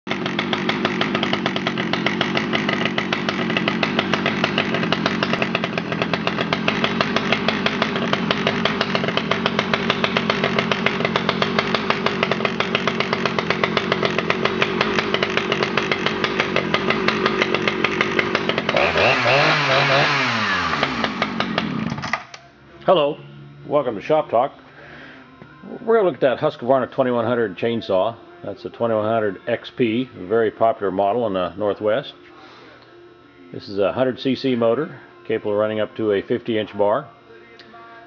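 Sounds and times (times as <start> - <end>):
chainsaw engine running steadily: 0.1 - 22.4, 23.4 - 37.0.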